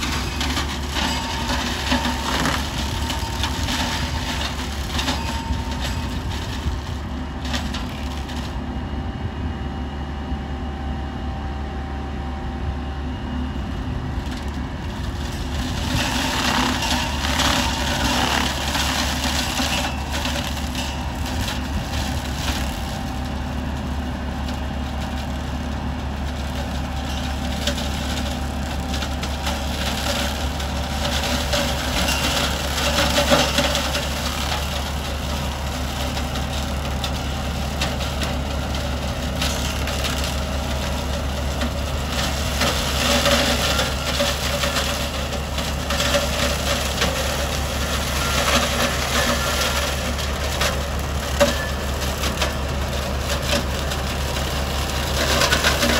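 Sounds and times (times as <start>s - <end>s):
hedge cutter shredding branches: 0.0s - 8.6s, 14.1s - 55.9s
tractor engine under load: 0.0s - 55.9s.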